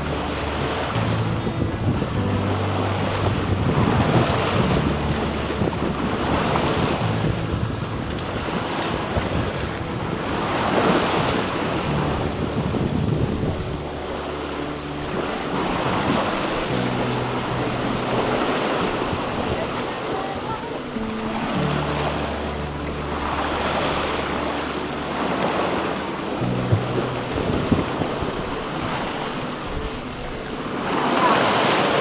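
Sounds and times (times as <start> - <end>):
water rushing past hull: 0.0 - 32.0
wind buffeting microphone: 0.0 - 32.0.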